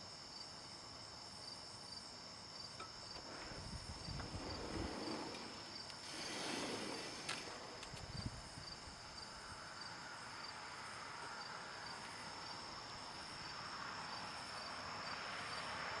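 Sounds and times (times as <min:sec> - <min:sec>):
crickets chirping: 0:00.0 - 0:16.0
light hiss: 0:01.2 - 0:16.0.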